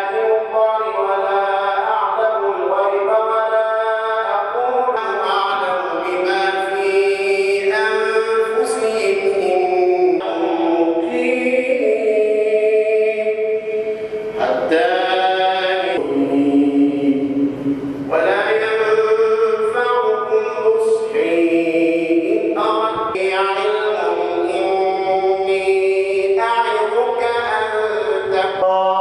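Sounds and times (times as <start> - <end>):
man chanting melodic recitation: 0.0 - 29.0.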